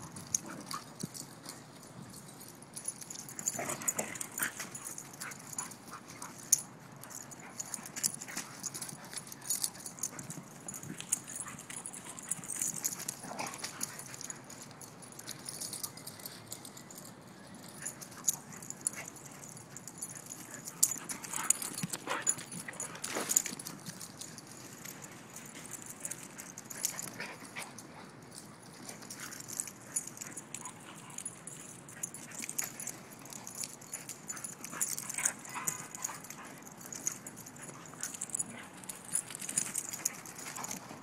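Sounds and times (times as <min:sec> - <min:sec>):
dogs scuffling: 0:00.1 - 0:16.3, 0:17.6 - 0:41.0.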